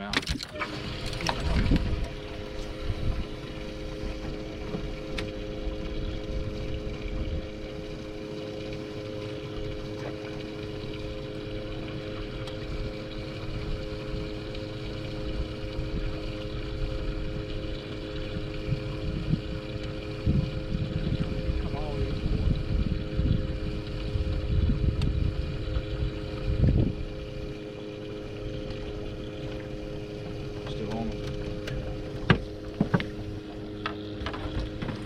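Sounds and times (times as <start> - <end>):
boat motor humming: 0.0 - 35.0
wind and water rumble: 0.0 - 35.0.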